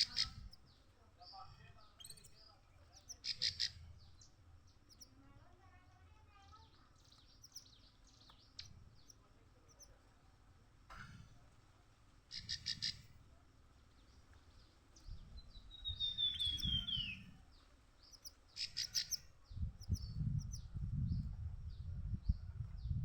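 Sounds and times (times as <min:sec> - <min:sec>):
canary song: 0:00.0 - 0:10.0, 0:12.3 - 0:13.3, 0:13.9 - 0:23.0.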